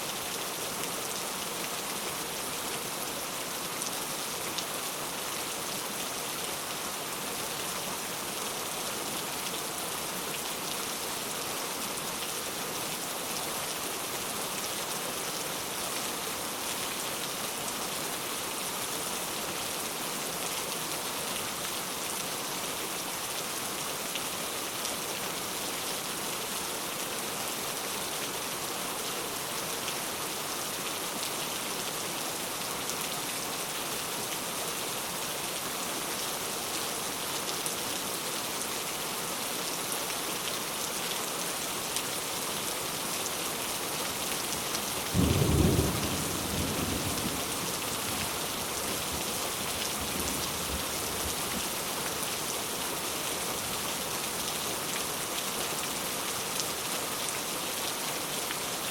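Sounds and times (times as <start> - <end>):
heavy rain falling: 0.1 - 58.9.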